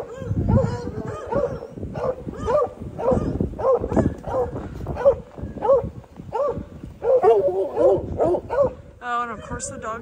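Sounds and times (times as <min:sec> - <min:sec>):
dogs yipping: 0:00.0 - 0:09.8
wind noise on microphone: 0:00.0 - 0:10.0.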